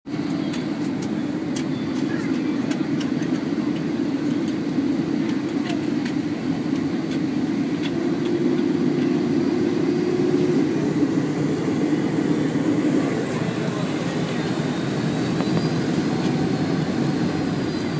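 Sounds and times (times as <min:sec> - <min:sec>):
jet engines rumbling: 0:00.1 - 0:17.9.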